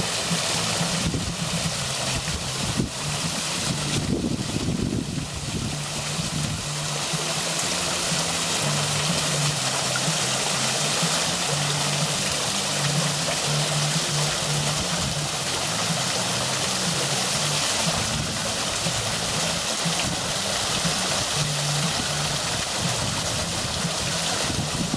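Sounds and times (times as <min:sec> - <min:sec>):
water running down fountain: 0:00.0 - 0:24.9.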